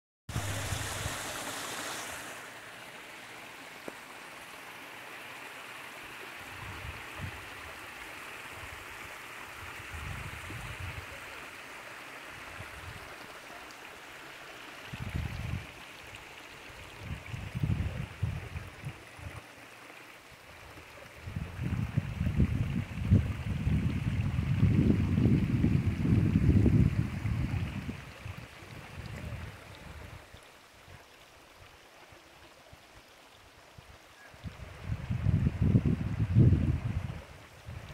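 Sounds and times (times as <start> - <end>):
stream running over rocks: 0.3 - 37.9.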